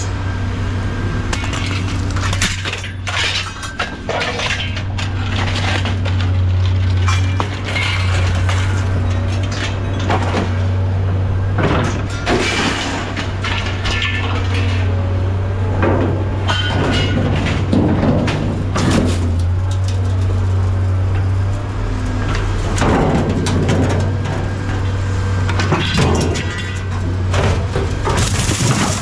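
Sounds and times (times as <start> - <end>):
heavy engine droning: 0.0 - 29.0
metal clanking and scraping: 1.2 - 29.0.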